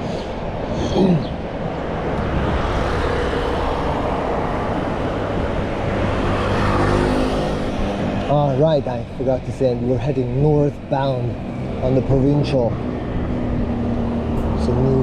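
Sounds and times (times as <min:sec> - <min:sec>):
highway traffic: 0:00.0 - 0:15.0
vehicle passing by: 0:01.9 - 0:15.0.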